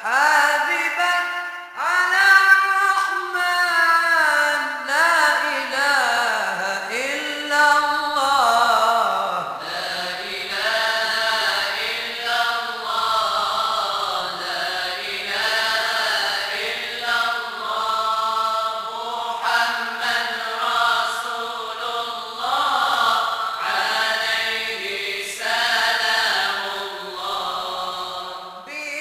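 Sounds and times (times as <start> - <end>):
vocal group chanting: 0.0 - 29.0.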